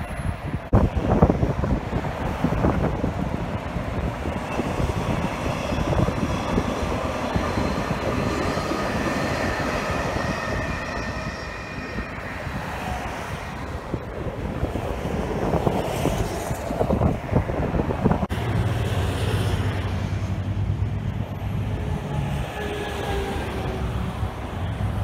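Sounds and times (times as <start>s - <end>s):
electric trains passing: 0.0s - 25.0s
freeway traffic rush: 0.0s - 25.0s
high train whine: 0.0s - 25.0s.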